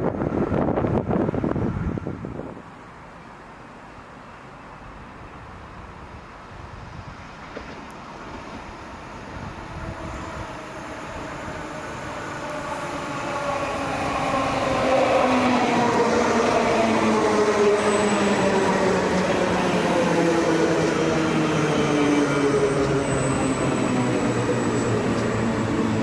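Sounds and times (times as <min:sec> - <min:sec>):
electric train approaching: 0:00.0 - 0:26.0.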